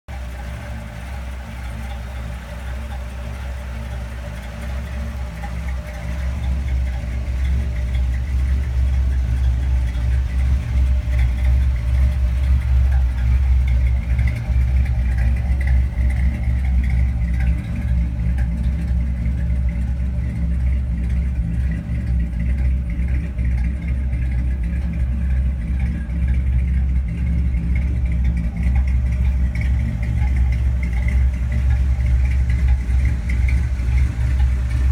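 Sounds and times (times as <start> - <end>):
car engine running deep: 0.0 - 34.9.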